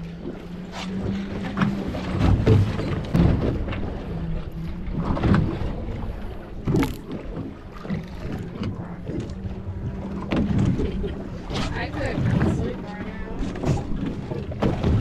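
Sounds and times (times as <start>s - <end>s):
low hum: 0.0s - 15.0s
water against boat hull: 0.0s - 15.0s.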